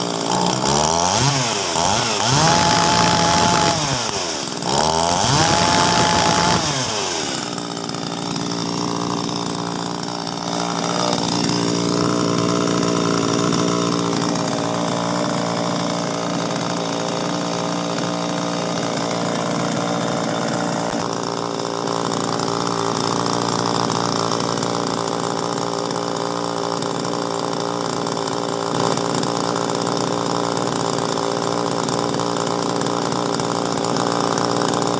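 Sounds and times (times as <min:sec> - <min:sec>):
small chainsaw engine running: 0:00.0 - 0:34.9.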